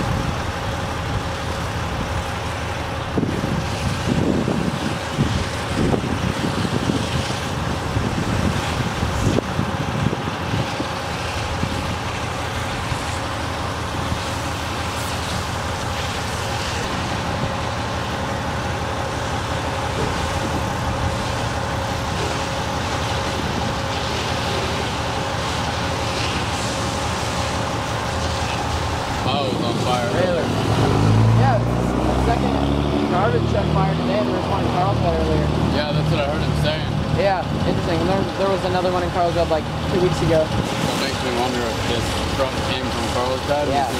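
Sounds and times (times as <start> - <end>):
fire engine pump drone: 0.0 - 43.9
fire hoses spraying water: 0.0 - 43.9.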